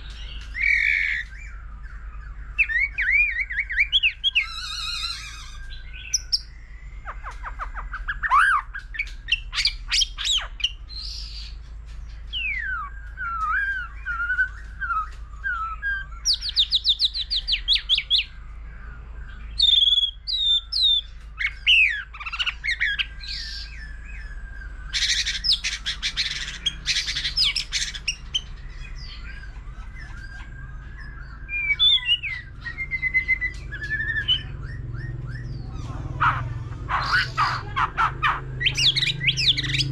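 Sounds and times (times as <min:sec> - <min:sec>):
bird singing varied song: 0:00.0 - 0:39.9
faint low hum: 0:00.0 - 0:39.9.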